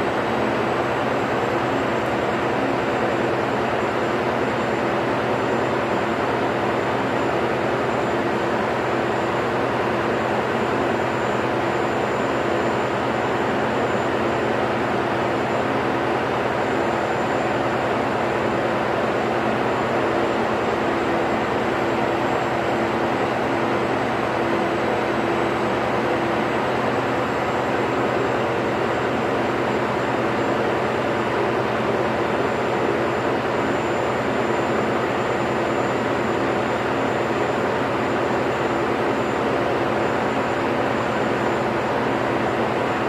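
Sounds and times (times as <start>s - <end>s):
engine room machinery drone: 0.0s - 43.0s.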